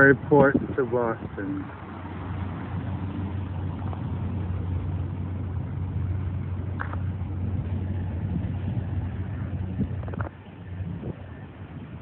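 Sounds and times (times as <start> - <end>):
train rumble and rattle: 0.3 - 11.7
diesel train engine drone: 1.2 - 12.0.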